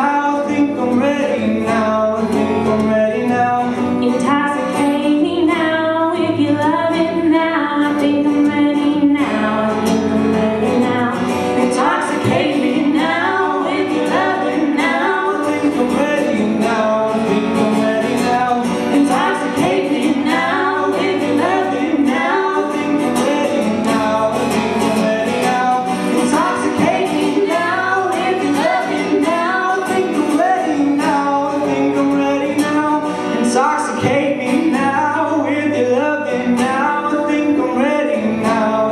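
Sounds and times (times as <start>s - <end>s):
guitar accompaniment: 0.0s - 38.9s
people singing pop song: 0.0s - 38.9s.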